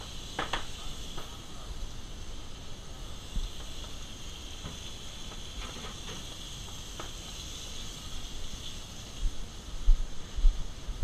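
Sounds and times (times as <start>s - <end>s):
kitchen hiss and whine: 0.0s - 11.0s.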